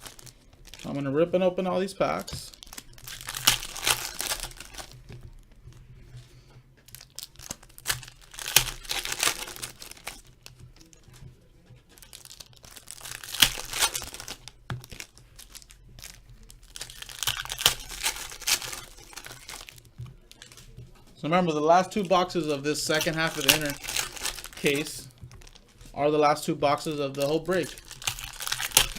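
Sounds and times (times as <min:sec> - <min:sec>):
foil packs ripping and crinkling: 0:00.0 - 0:01.1, 0:02.1 - 0:05.2, 0:06.9 - 0:11.0, 0:11.9 - 0:20.8, 0:21.8 - 0:26.0, 0:26.7 - 0:28.9.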